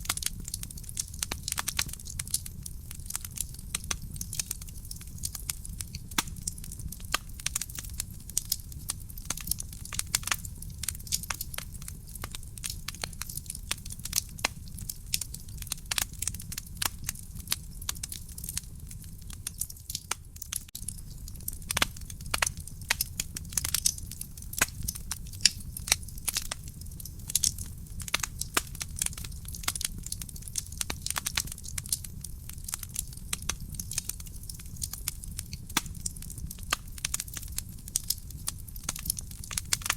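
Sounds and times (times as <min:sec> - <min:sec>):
firewood crackling in fireplace: 0:00.0 - 0:39.9.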